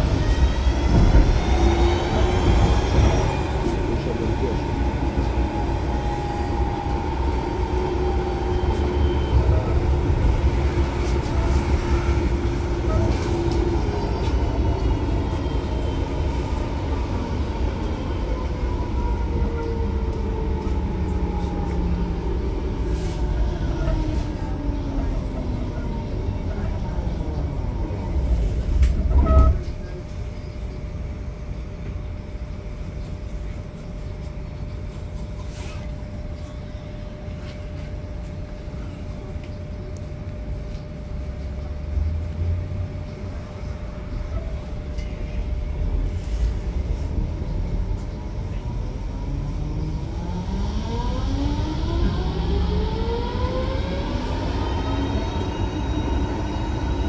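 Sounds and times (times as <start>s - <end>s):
tram rumbling: 0.0s - 57.0s.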